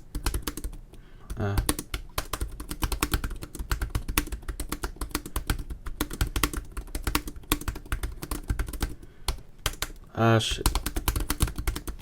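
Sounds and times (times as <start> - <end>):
laptop keyboard typing: 0.0 - 12.0.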